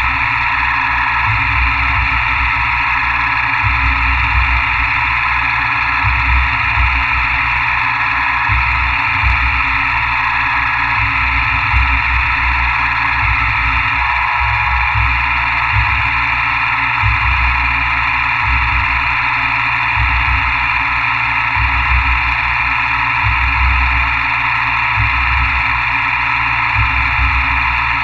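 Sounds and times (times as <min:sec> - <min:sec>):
low rumble: 0:00.0 - 0:25.8
milling machine whine: 0:00.0 - 0:28.0.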